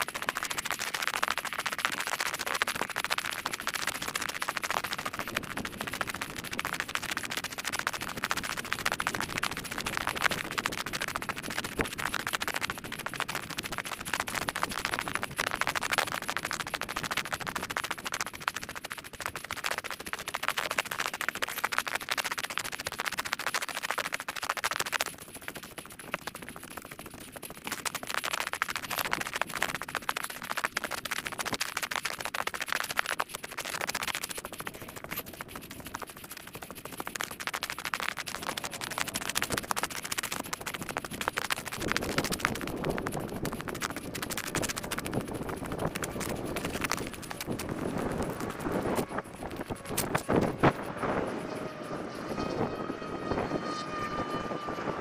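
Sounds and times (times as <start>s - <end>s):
dense scratchy crackle: 0.0s - 55.0s.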